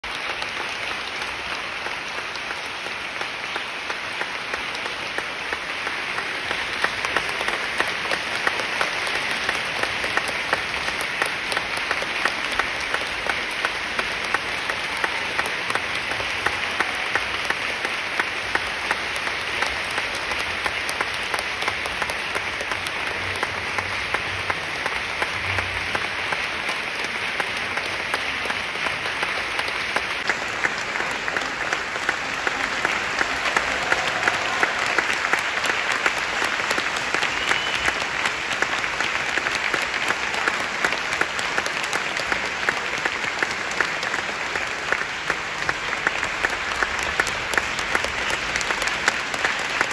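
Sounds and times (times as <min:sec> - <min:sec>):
audience applauding: 0:00.0 - 0:49.9.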